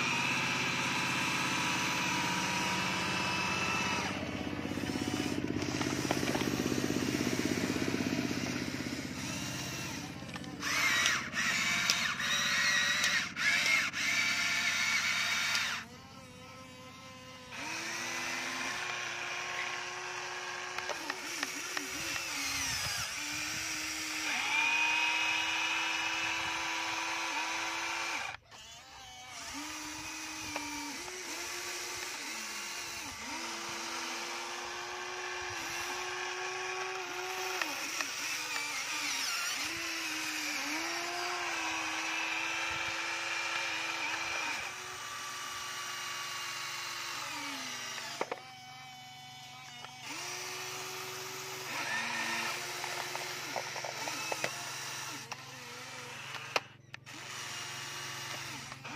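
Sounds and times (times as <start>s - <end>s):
toy electric motors whining: 0.0s - 58.9s.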